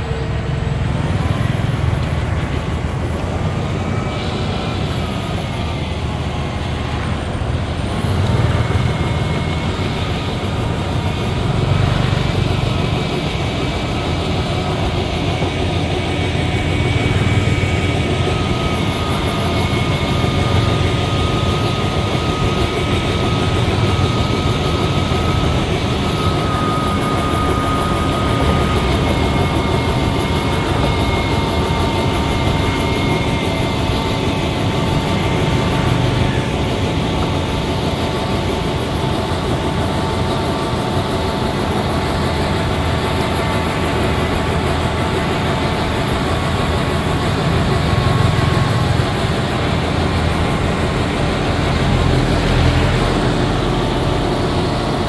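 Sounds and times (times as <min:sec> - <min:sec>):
diesel engine running: 0:00.0 - 0:39.6, 0:42.6 - 0:55.0
thin steady whine: 0:00.0 - 0:55.0.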